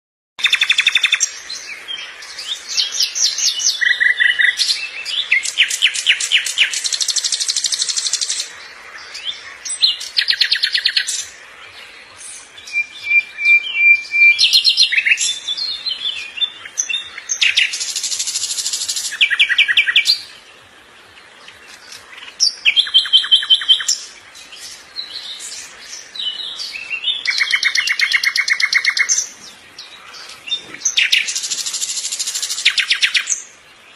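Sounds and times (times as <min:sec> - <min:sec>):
bird singing varied song: 0:00.4 - 0:33.9.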